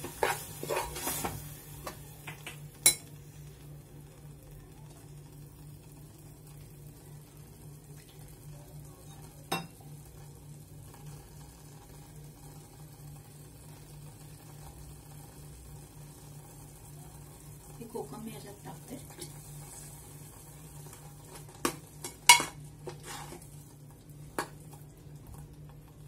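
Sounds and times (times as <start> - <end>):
faint sizzle of frying: 0.0 - 26.0.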